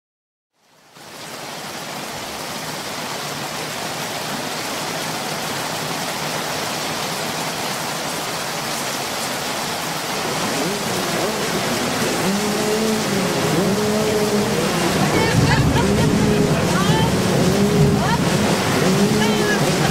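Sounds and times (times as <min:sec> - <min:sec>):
heavy rain falling: 0:00.6 - 0:19.9.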